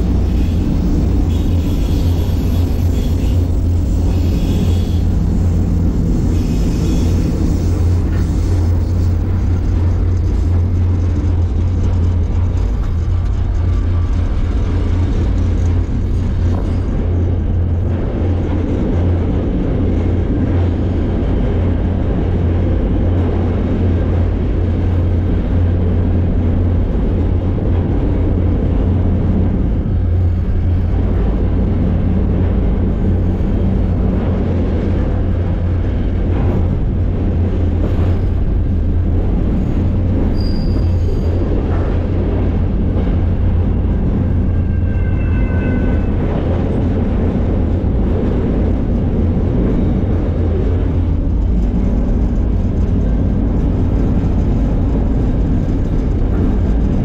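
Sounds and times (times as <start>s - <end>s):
freight car rumbling over rails: 0.0s - 57.0s.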